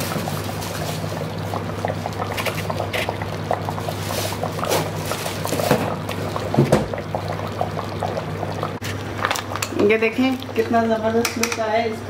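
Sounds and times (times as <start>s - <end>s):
thick liquid bubbling and popping: 0.0s - 11.5s.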